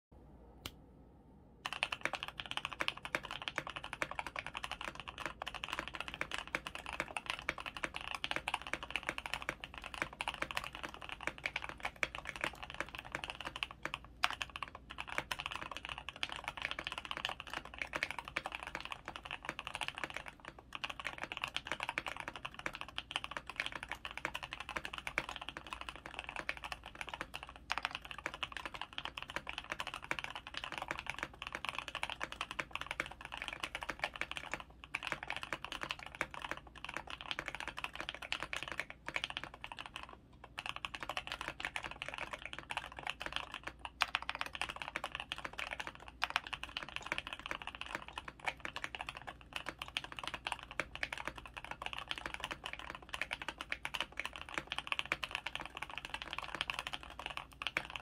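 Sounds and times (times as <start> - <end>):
mechanical keyboard typing: 1.6 - 58.0.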